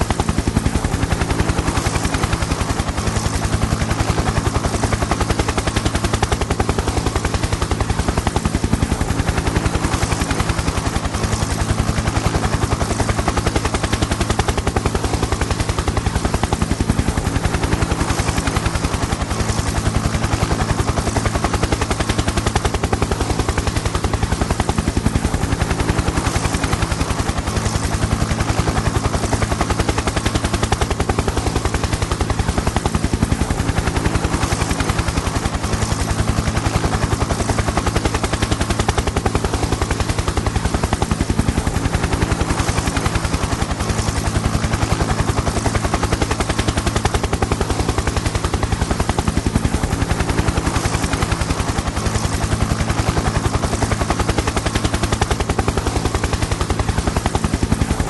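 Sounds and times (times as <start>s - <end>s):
helicopter rotor blades chopping: 0.0s - 58.0s.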